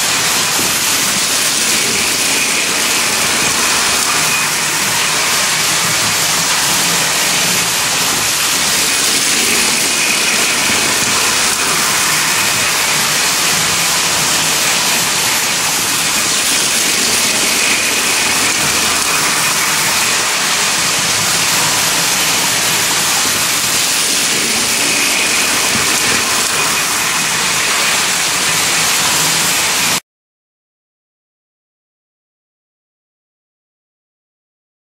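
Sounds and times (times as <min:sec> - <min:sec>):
toy trains rolling on track: 0:00.0 - 0:30.0.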